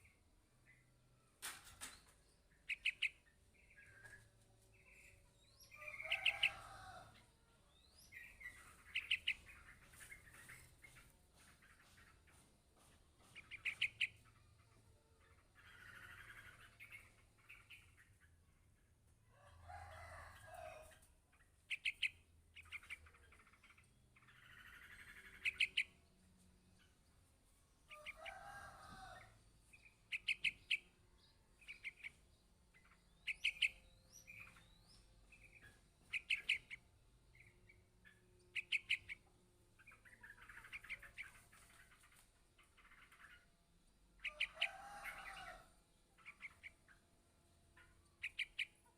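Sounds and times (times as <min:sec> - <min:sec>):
bird chick chirping: 0:01.4 - 0:07.4, 0:08.0 - 0:18.4, 0:19.4 - 0:26.0, 0:27.9 - 0:43.5, 0:44.2 - 0:47.0, 0:47.7 - 0:48.9.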